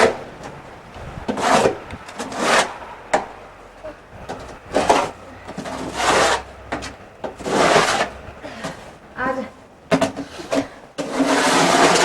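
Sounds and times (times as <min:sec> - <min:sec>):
snow being scraped off steps: 0:00.0 - 0:02.9, 0:04.4 - 0:12.0.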